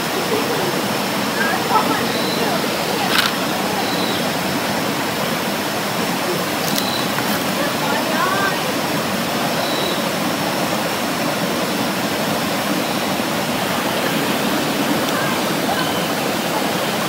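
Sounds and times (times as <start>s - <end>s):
waterfall stream rushing over rocks: 0.0s - 17.0s.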